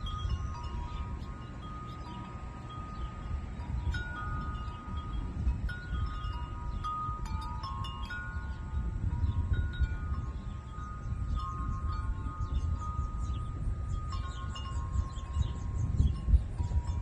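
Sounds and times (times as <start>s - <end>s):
wind chimes ringing: 0.0s - 17.0s.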